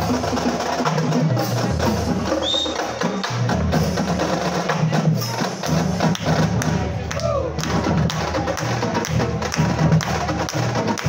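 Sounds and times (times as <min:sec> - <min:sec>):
snare drum: 0:00.0 - 0:11.0.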